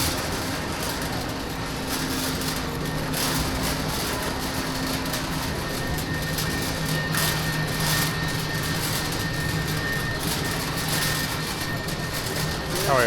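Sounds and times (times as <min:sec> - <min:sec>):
ventilation and refrigeration hum: 0:00.0 - 0:13.0.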